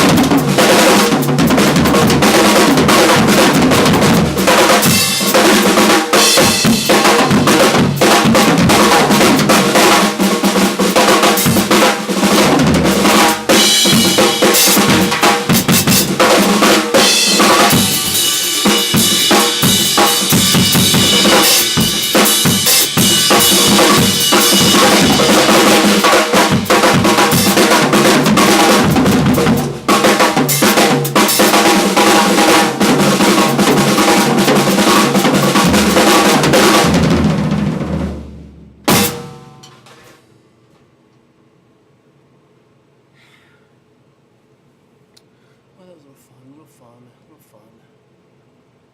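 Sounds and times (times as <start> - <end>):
drum kit solo: 0.0 - 40.1.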